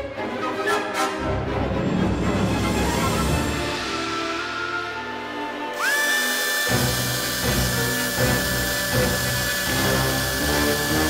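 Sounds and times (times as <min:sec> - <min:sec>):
background music with sustained chords: 0:00.0 - 0:11.0.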